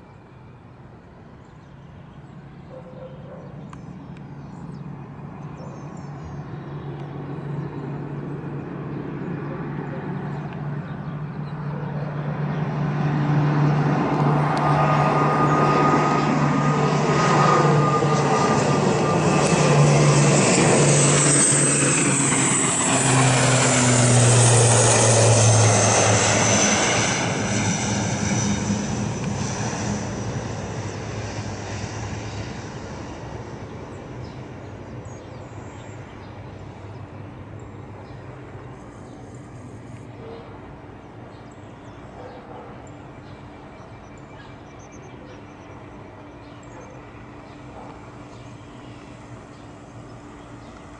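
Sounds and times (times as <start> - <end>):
turboprop airliner engines droning: 0.0 - 50.9.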